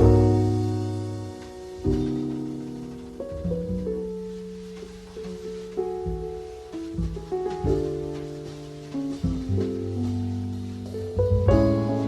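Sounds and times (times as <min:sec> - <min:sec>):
held bass notes: 0:00.0 - 0:12.0.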